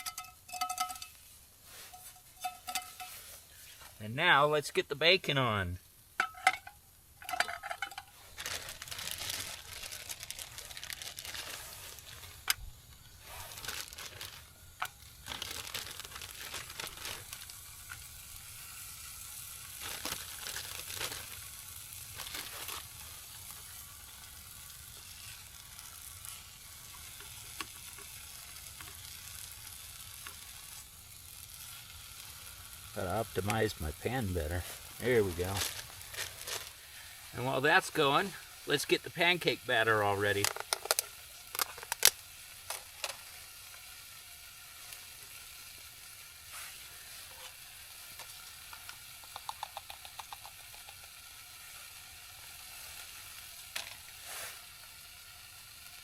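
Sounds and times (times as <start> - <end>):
bacon sizzling in a frying pan: 0.0 - 4.4, 5.0 - 56.0.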